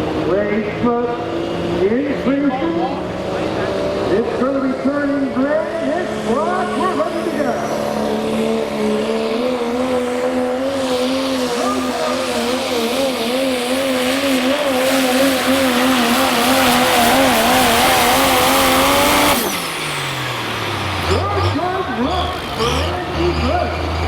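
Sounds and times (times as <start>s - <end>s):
diesel truck engine at full throttle: 0.0s - 24.0s.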